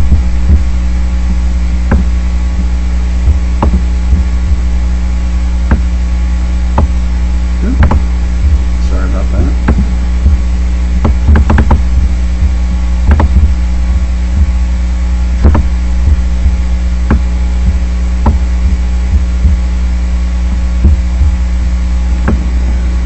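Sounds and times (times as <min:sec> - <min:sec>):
loud electrical hum: 0:00.0 - 0:23.0.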